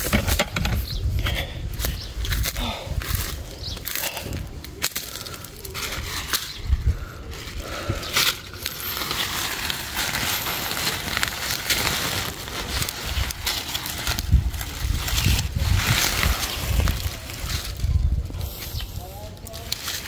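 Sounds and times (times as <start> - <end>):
sack and dry leaves rustling: 1.4 - 20.0.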